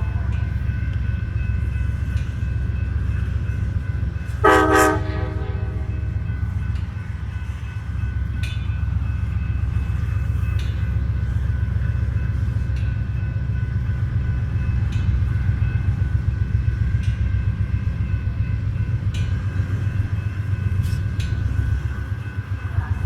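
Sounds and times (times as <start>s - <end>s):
train rumbling: 0.0s - 23.0s
train wheel clicks: 0.2s - 4.4s, 6.4s - 23.0s.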